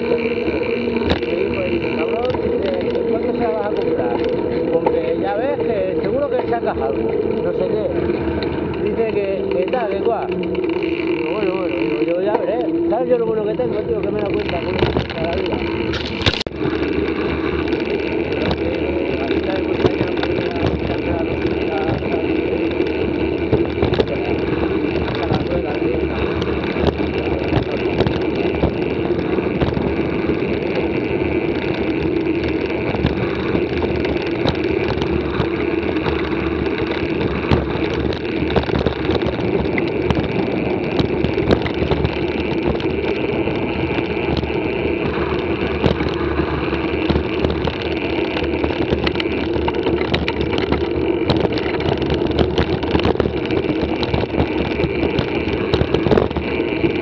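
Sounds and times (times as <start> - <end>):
bike rattles and clicks: 0.0 - 57.0
tyre rumble: 0.0 - 57.0
wind on microphone: 10.2 - 57.0.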